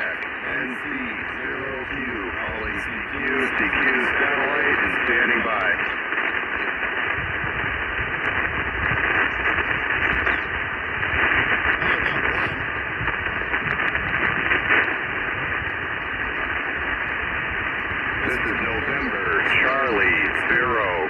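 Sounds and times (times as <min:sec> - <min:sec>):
radio receiver static hiss: 0:00.0 - 0:21.0.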